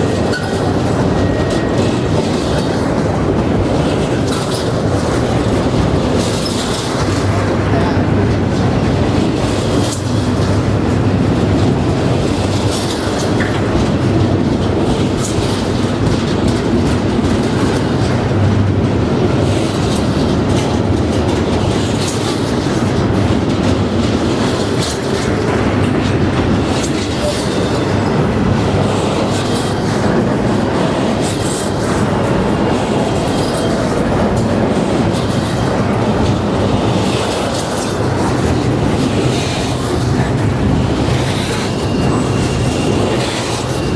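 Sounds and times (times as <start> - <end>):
train wheels clacking on rails: 0.0 - 43.9.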